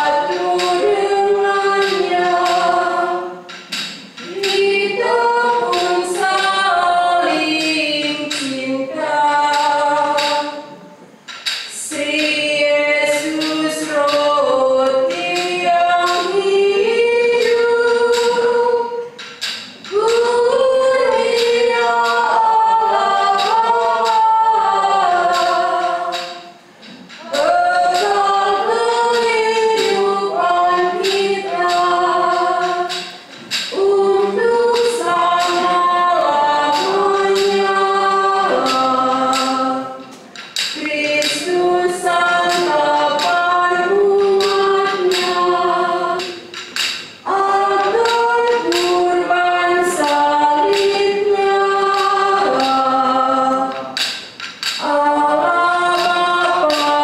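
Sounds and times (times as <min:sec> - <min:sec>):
church choir singing a hymn: 0:00.0 - 0:10.9, 0:11.7 - 0:19.2, 0:19.8 - 0:54.1, 0:54.7 - 0:57.0.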